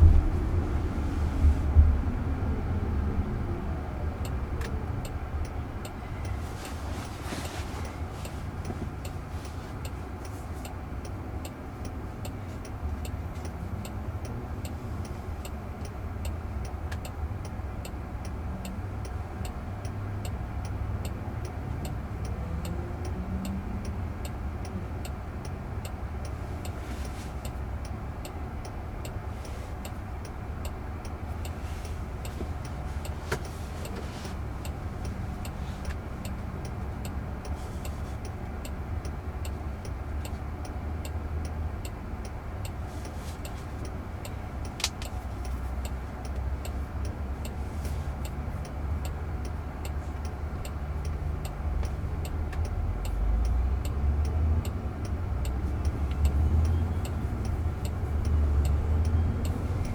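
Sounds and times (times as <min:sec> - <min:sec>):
road and tyre rumble: 0:00.0 - 0:59.9
light ticking: 0:03.8 - 0:59.9.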